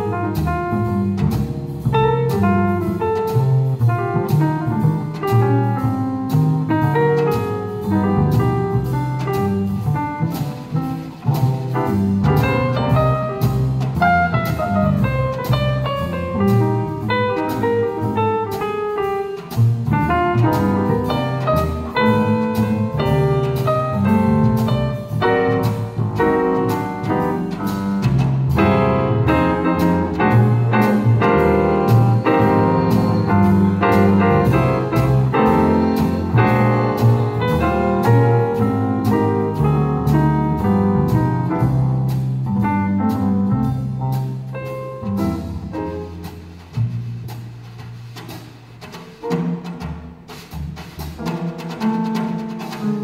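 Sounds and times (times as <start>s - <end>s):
drum kit: 0.0s - 53.0s
grand piano: 0.0s - 53.0s
plucked double bass: 0.0s - 53.0s.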